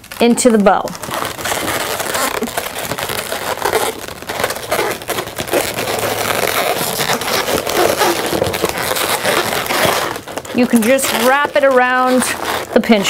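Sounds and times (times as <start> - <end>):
latex balloons rubbing and squeaking: 0.0 - 13.0.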